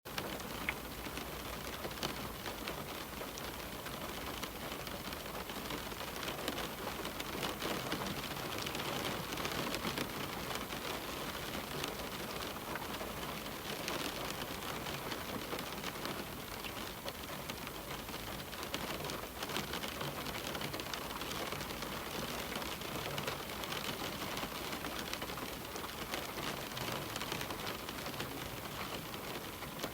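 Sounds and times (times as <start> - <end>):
rain pattering on a window: 0.1 - 29.9.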